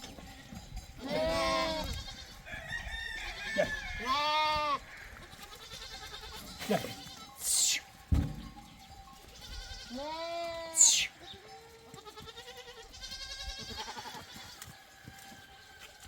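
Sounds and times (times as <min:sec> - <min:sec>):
goats bleating: 0:00.0 - 0:14.7.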